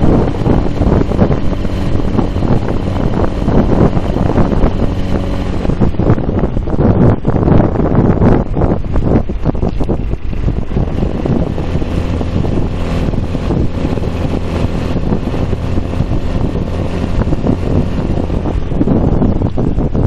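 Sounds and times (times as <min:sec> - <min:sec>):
moped engine running: 0:00.0 - 0:20.0
wind buffeting microphone: 0:00.0 - 0:20.0.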